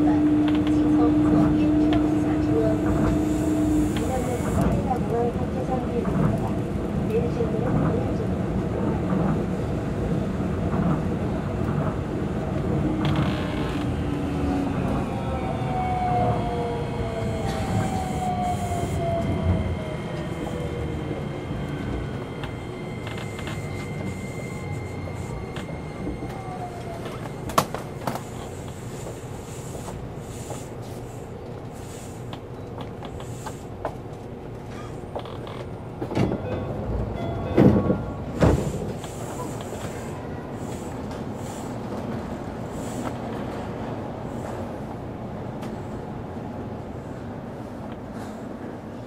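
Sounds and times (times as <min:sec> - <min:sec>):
train running rumble: 0:00.0 - 0:49.0.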